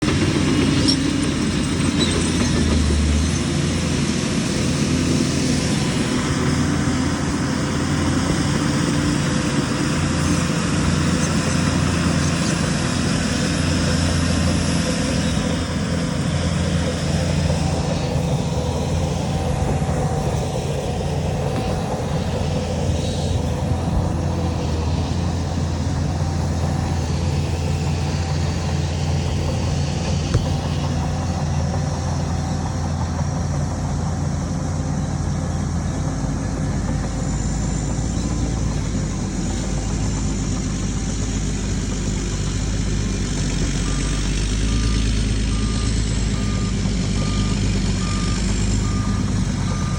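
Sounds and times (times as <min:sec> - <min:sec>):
diesel machinery engine drone: 0:00.0 - 0:49.9.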